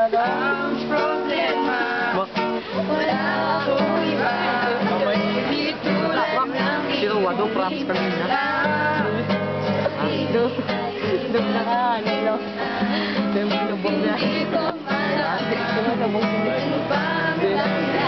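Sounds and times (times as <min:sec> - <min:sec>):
acoustic guitar strumming: 0:00.0 - 0:18.0
young voices singing together: 0:00.0 - 0:18.0.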